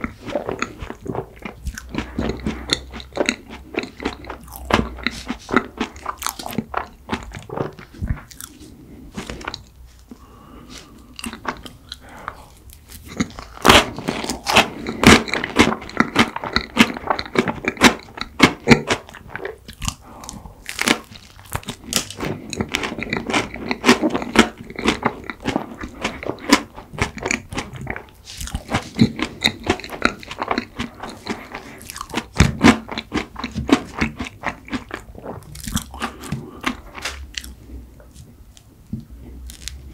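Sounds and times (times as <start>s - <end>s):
crunching and chewing snack: 0.0s - 39.9s.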